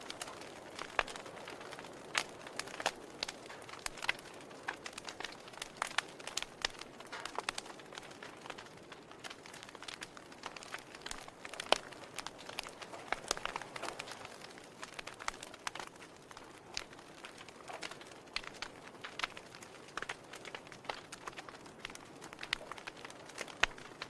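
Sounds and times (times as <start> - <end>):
firewood crackling and popping: 0.0 - 24.0
soft fire hiss: 0.0 - 24.0.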